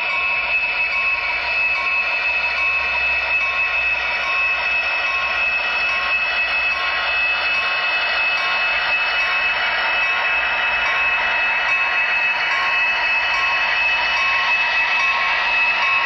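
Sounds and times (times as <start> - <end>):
locomotive bell ding: 0.0 - 16.0
model train hissing whine: 0.0 - 16.0.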